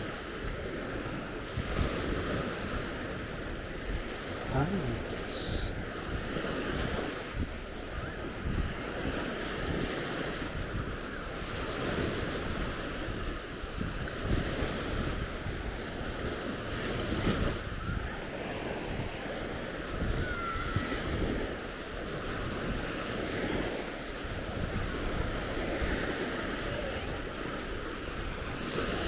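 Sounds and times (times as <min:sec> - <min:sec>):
sea waves breaking on beach: 0:00.0 - 0:29.0
wind rumbling on microphone: 0:00.0 - 0:29.0.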